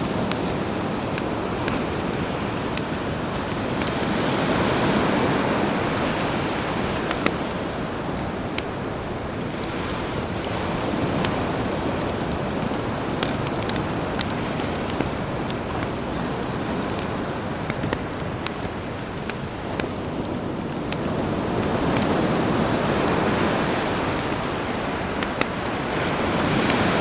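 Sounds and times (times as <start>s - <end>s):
campfire crackling and popping: 0.0s - 27.0s
sea waves: 0.0s - 27.0s.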